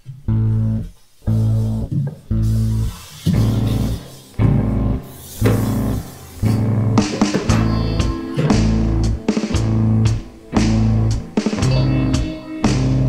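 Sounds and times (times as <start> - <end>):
film music deep bass line: 0.3 - 13.0.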